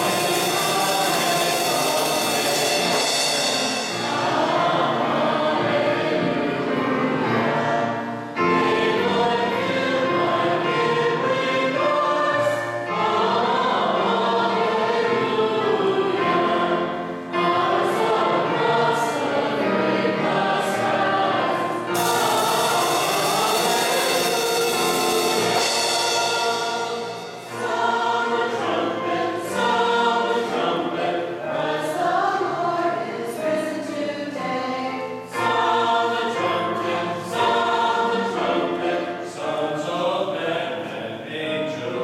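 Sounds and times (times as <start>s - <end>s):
choir and congregation singing hymn: 0.0s - 42.0s.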